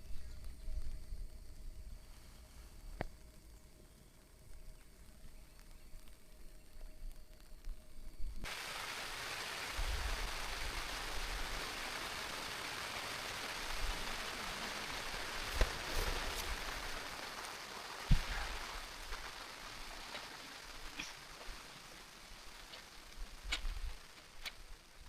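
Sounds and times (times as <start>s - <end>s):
rain hiss: 0.0s - 25.0s.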